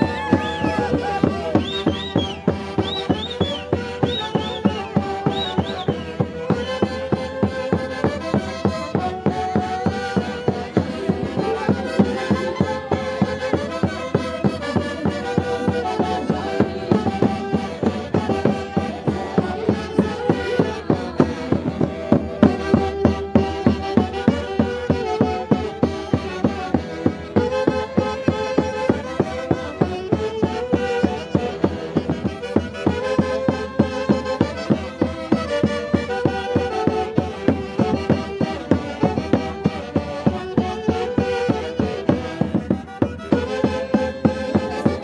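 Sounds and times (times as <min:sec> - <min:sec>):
festive dance music: 0:00.0 - 0:45.0.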